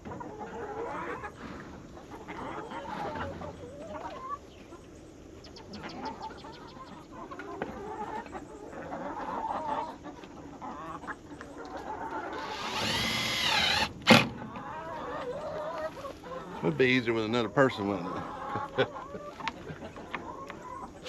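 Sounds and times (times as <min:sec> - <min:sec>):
hens clucking and calling: 0:00.0 - 0:21.0.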